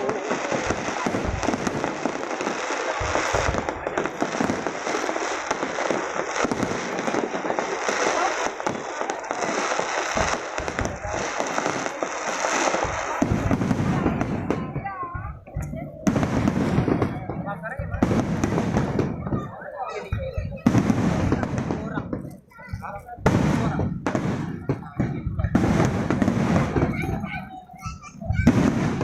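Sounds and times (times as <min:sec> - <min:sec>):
fireworks booms: 0:00.0 - 0:29.0
fireworks crackling: 0:00.0 - 0:29.0.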